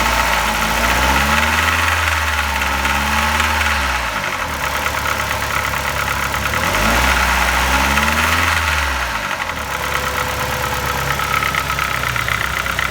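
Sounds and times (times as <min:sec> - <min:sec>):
knocking petrol engine revving: 0:00.0 - 0:12.9.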